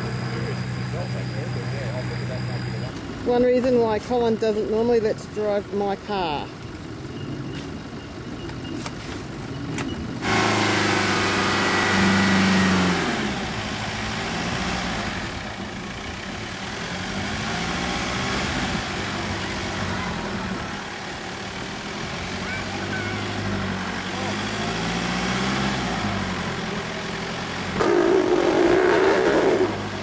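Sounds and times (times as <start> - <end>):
four-wheel drive engine revving: 0.0 - 3.9, 9.6 - 30.0.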